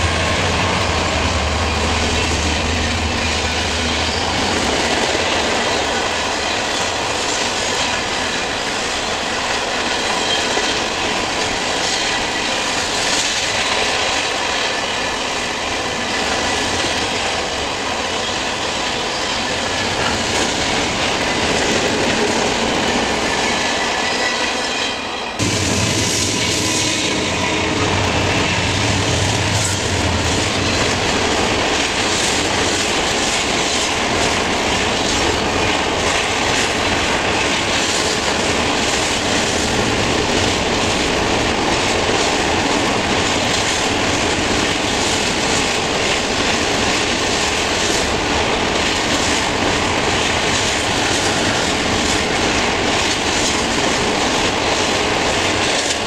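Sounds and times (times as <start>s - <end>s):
diesel locomotive engines droning: 0.0s - 56.0s
train wheels clattering on rails: 0.0s - 56.0s.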